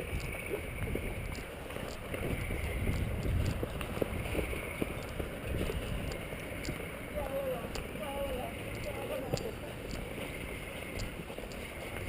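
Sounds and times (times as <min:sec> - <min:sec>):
faint clicks: 0:00.0 - 0:12.0
wind rumbling on microphone: 0:00.0 - 0:12.0.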